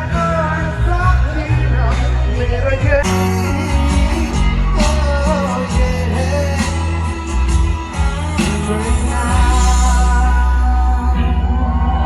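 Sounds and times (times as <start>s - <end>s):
guitar: 0.0s - 12.0s
heavy bass line: 0.0s - 12.0s
person singing: 0.0s - 12.0s.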